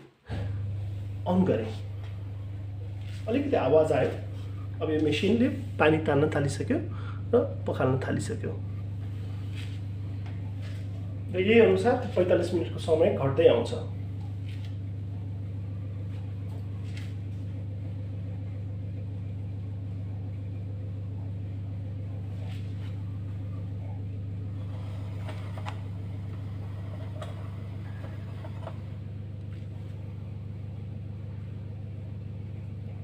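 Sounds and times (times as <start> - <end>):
dishwasher humming: 0.0 - 33.0.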